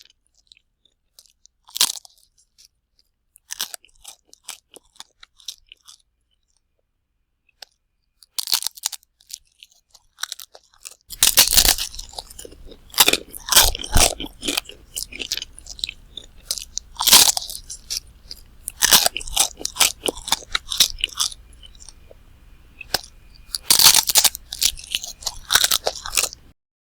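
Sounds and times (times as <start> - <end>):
person chewing crunchy food: 0.1 - 2.8, 3.4 - 6.6, 8.4 - 26.5.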